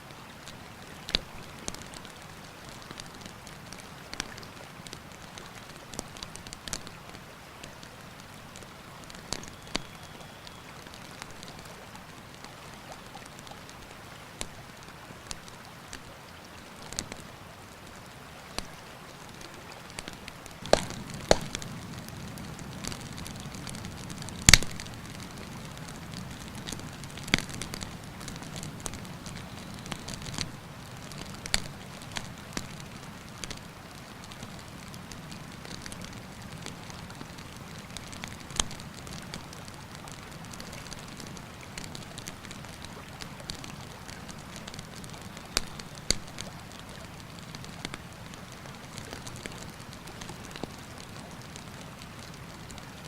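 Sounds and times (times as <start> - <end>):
river rushing: 0.0 - 53.0
campfire crackling and popping: 0.5 - 16.1, 19.4 - 53.0.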